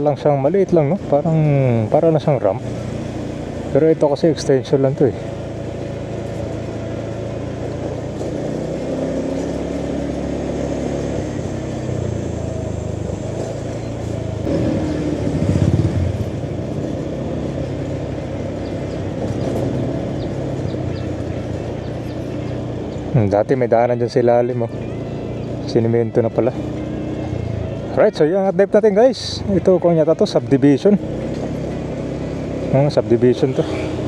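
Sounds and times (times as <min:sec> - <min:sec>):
vehicle engine and road noise: 0:00.0 - 0:34.0.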